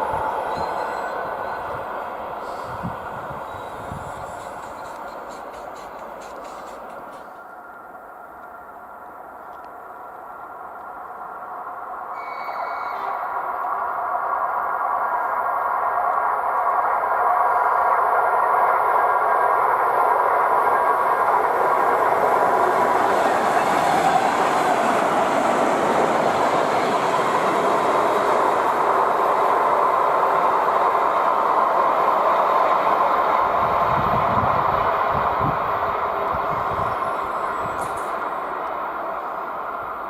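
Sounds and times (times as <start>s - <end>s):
train wheels rushing on rail: 0.0s - 40.0s.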